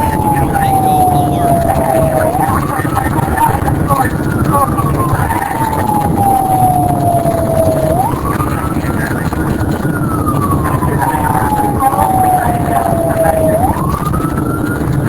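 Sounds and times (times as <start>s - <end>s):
low rumble: 0.0s - 15.0s
warning siren wailing: 0.0s - 15.0s.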